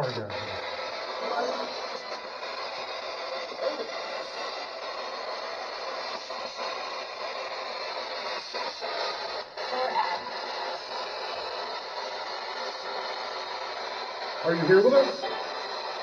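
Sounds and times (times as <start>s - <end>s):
radio fragments breaking through: 0.0s - 16.0s
radio static sweeping stations: 0.0s - 16.0s.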